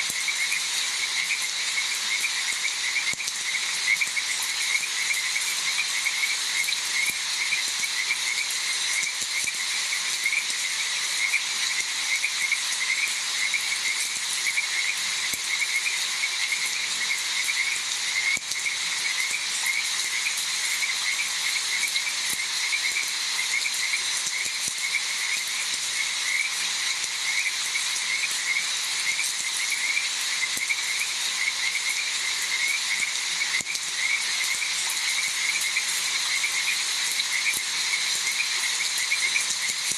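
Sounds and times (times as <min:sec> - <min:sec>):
frogs calling: 0:00.0 - 0:39.9
steady rain: 0:00.0 - 0:39.9.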